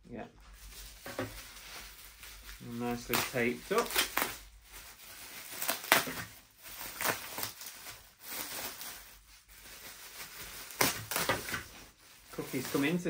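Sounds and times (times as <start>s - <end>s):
bubble wrap rustling: 0.4s - 13.0s.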